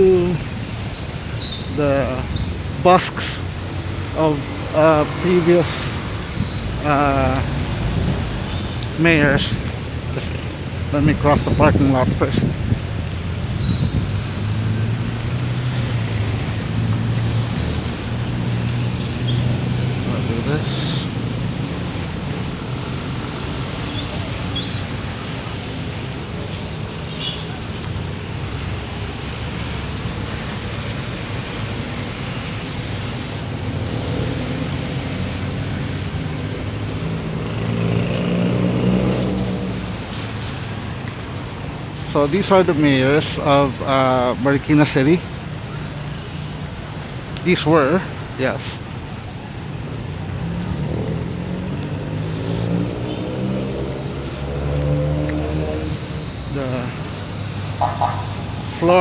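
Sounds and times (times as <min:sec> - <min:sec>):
traffic noise: 0:00.0 - 0:59.0
vehicle engine humming: 0:00.0 - 0:59.0.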